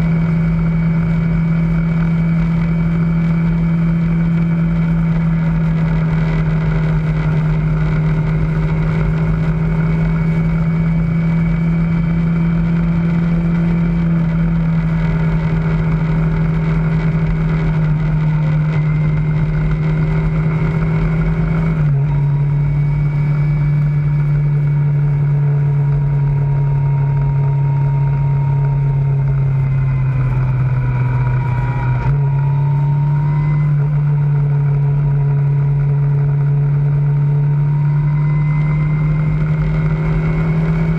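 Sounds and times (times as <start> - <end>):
low wind rumble: 0.0 - 40.9
motorcycle engine cruising: 0.0 - 40.9.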